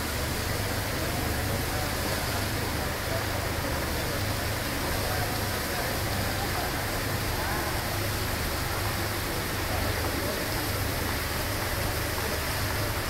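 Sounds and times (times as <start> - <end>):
faint indistinct voices: 0.0 - 13.0.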